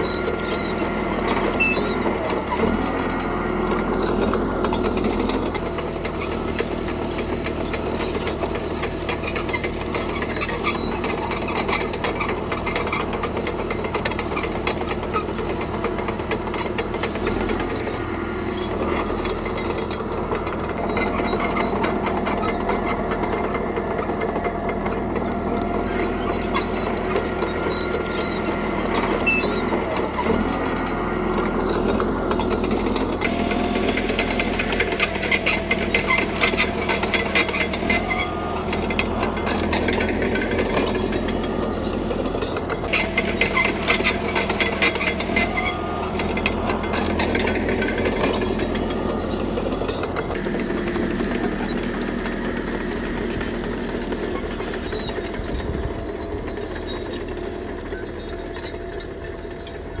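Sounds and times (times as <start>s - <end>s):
bulldozer diesel engine: 0.0s - 60.0s
steel tracks clanking: 0.0s - 60.0s.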